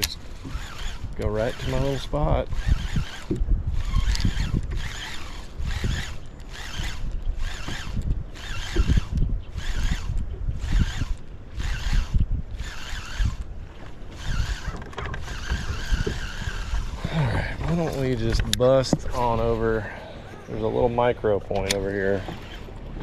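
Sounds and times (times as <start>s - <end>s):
fishing reel cranking: 0.0s - 13.5s, 14.1s - 19.8s, 21.6s - 23.0s
wind rumble on microphone: 0.0s - 23.0s.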